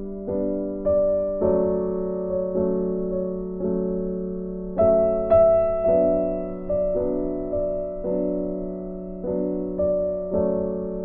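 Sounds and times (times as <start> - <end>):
slow piano notes: 0.0 - 11.0.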